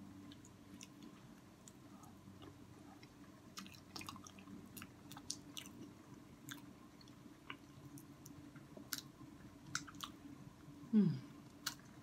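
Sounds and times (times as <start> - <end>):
faint steady hum: 0.0 - 12.0
person chewing food: 0.2 - 10.2, 11.4 - 12.0.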